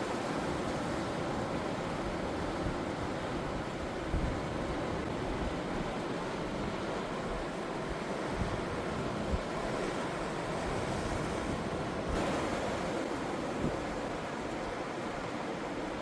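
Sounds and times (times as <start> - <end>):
ocean surf washing in: 0.0 - 16.0.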